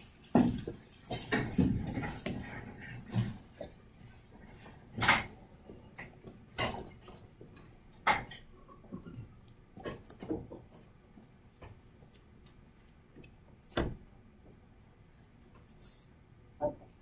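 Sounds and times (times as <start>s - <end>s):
handling knocks and rustles: 0.0s - 16.1s.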